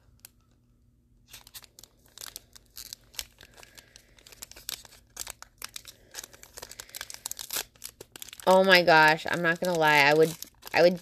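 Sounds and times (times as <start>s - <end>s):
foil wrapper crinkling and tearing: 1.2s - 11.0s.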